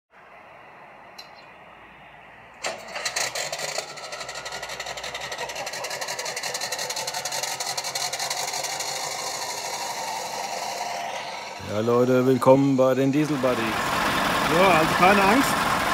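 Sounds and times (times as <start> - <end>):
diesel engine starting and idling: 2.1 - 15.9.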